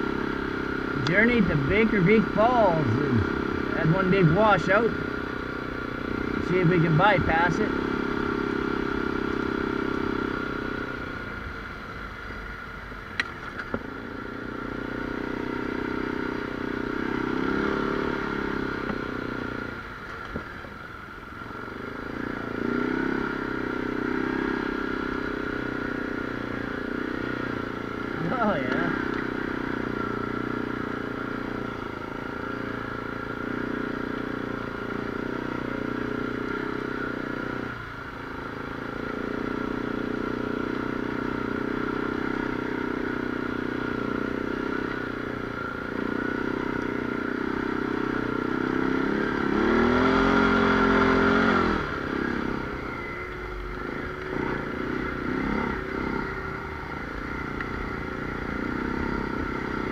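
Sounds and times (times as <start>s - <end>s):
utility vehicle engine running: 0.0s - 59.9s.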